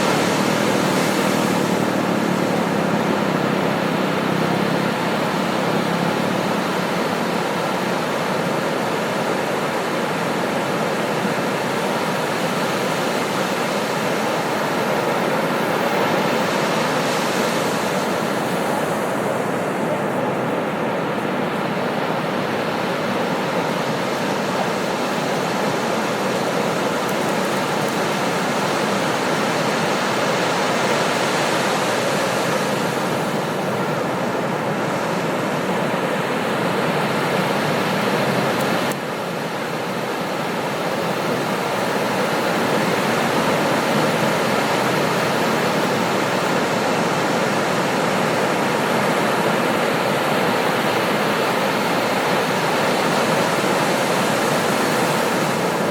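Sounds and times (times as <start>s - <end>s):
ocean surf breaking on beach: 0.0s - 55.9s.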